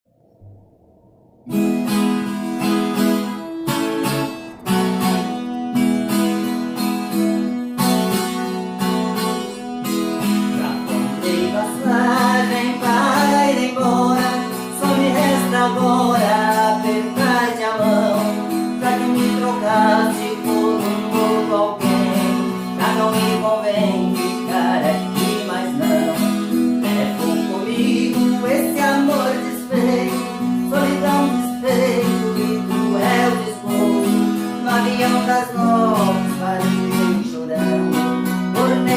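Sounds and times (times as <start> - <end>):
strummed acoustic guitar chords: 0.2 - 38.9.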